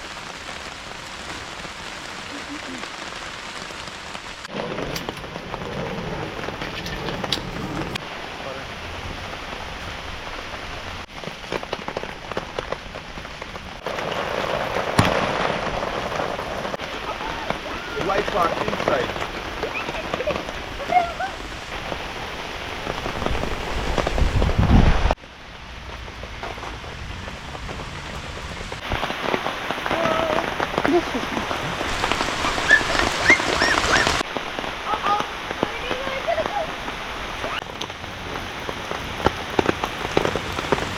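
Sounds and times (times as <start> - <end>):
heavy rain falling: 0.0 - 40.9
raindrops ticking on a surface: 0.0 - 40.9.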